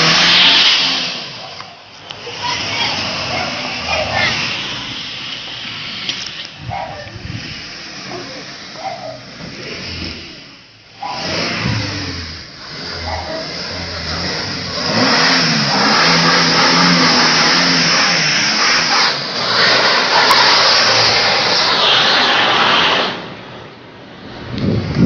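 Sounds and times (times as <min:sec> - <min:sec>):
another engine revving: 0:00.0 - 0:01.6, 0:02.2 - 0:23.3
car engine revving hard: 0:00.0 - 0:01.6, 0:02.2 - 0:23.4.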